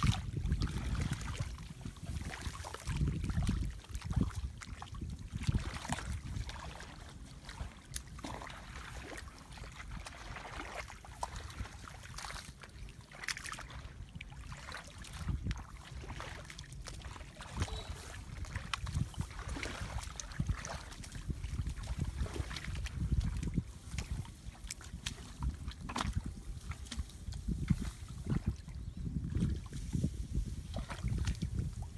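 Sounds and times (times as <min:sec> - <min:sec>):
feet wading through muddy water: 0:00.0 - 0:31.9
wind rumbling on microphone: 0:00.0 - 0:31.9.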